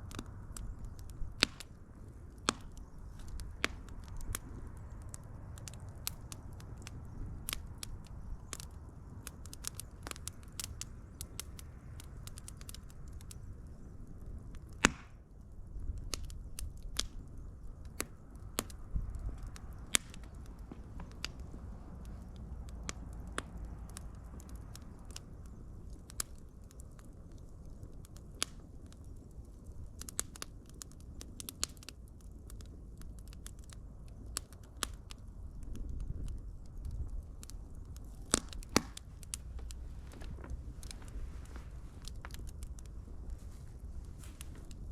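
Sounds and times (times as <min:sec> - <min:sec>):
low rumble of flame: 0:00.0 - 0:44.9
wood fire crackling: 0:00.0 - 0:44.9.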